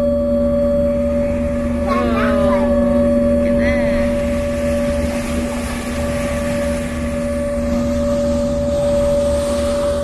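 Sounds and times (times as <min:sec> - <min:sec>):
ferry engines droning: 0:00.0 - 0:10.0.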